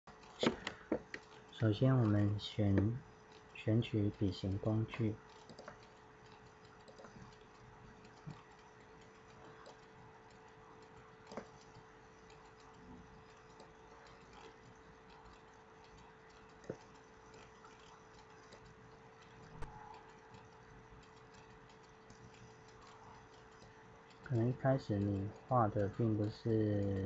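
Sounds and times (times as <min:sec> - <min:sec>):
computer mouse clicks: 0:00.1 - 0:27.0
faint steady hum: 0:00.1 - 0:27.0.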